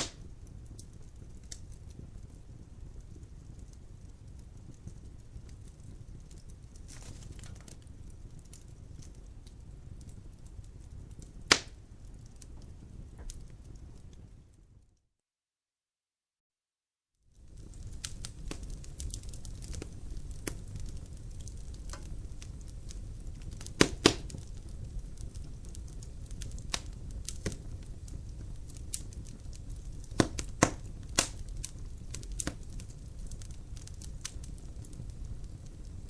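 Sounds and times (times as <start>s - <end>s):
sharp pops and snaps of fire: 0.0s - 14.6s, 17.3s - 36.0s
wood fire crackling: 0.0s - 14.8s, 17.3s - 36.0s.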